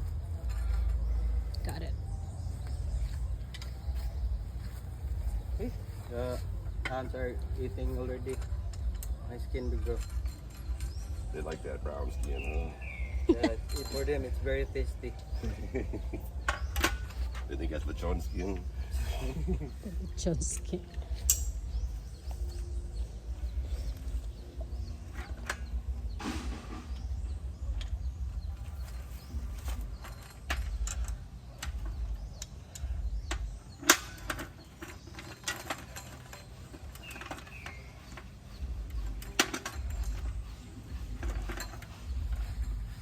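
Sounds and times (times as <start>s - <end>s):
steady low rumble: 0.0s - 35.2s, 35.8s - 43.0s
hand tools and fittings clinking: 2.6s - 20.0s, 20.9s - 26.4s, 27.7s - 43.0s.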